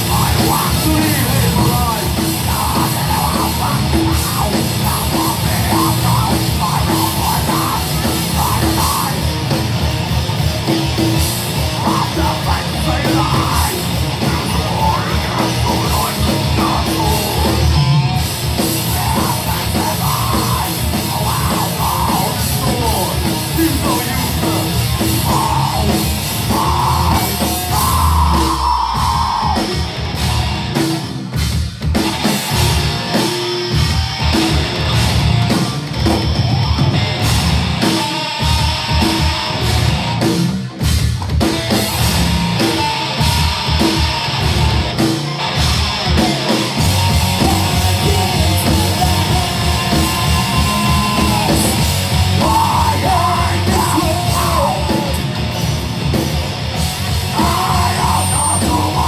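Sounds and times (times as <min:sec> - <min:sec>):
distorted guitars: 0:00.0 - 0:59.0
drums: 0:00.0 - 0:59.0
heavy metal band playing live: 0:00.0 - 0:59.0.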